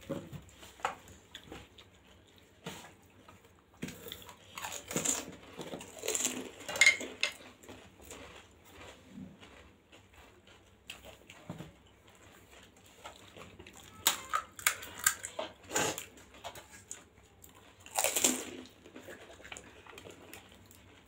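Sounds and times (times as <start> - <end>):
crisp shell crunching and chewing: 3.6 - 21.0.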